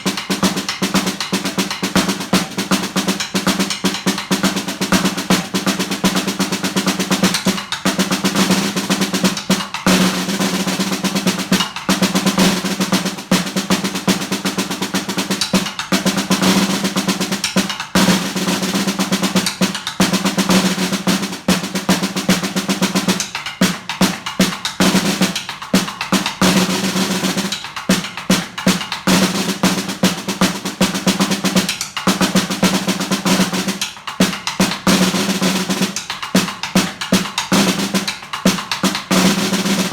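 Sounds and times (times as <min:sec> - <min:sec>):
snare drum rolls: 0:00.0 - 0:39.9.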